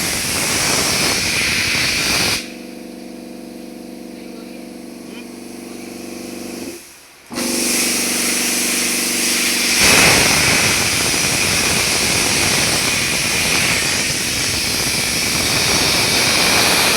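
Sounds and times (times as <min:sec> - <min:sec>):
plasma cutter rushing hiss: 0:00.0 - 0:02.8, 0:05.1 - 0:16.9
air hiss over machine hum: 0:00.0 - 0:16.9.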